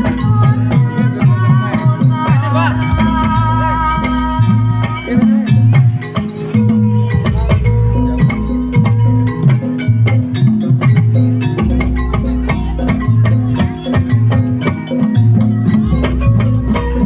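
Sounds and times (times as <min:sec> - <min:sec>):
hand drumming: 0:00.0 - 0:17.0.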